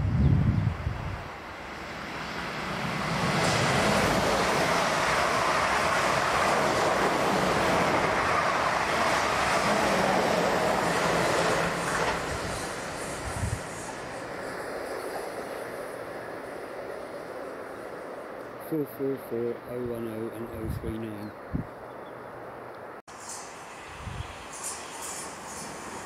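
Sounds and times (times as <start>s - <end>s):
train wheels on rail rushing past: 0.0s - 18.6s, 23.1s - 26.0s.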